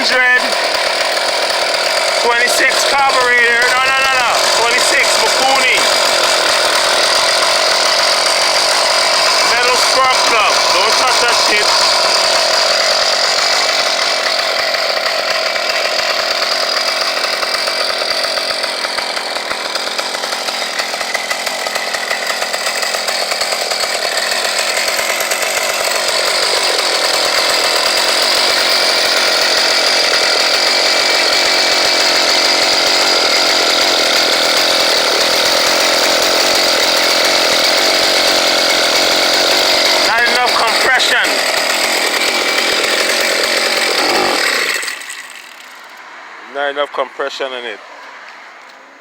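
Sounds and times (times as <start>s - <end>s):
two-stroke engine running: 0.0s - 47.0s.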